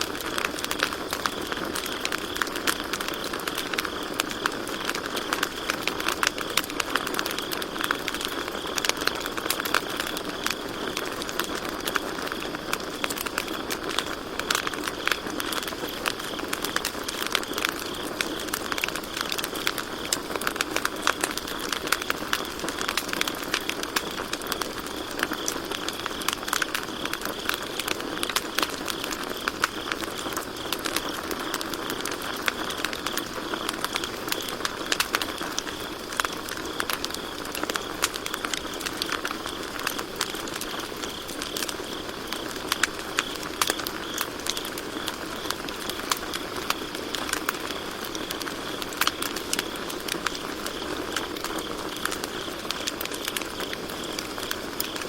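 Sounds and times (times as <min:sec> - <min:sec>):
campfire crackling: 0:00.0 - 0:55.0
crickets chirping: 0:00.0 - 0:55.0.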